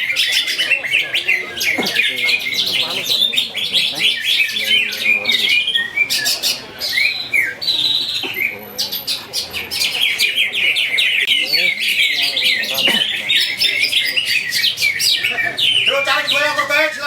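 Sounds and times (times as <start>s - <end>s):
birds chirping and trilling: 0.0s - 17.0s
murmur of people: 0.0s - 17.0s.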